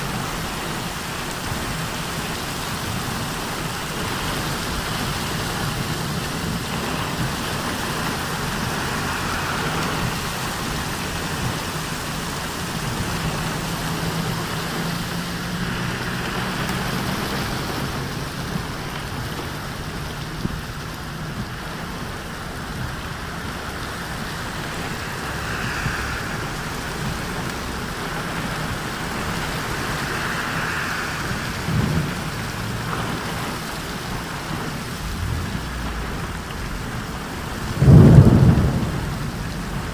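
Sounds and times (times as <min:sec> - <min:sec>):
low rumble of thunder: 0:00.0 - 0:39.9
steady rain falling: 0:00.0 - 0:39.9.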